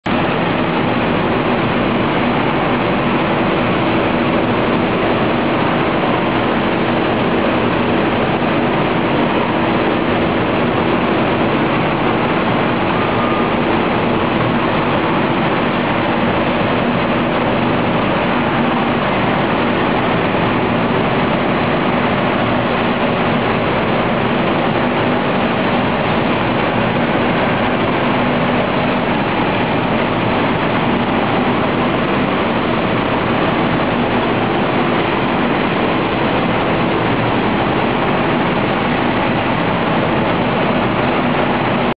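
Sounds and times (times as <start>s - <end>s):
machine drone with low hum: 0.1s - 42.0s.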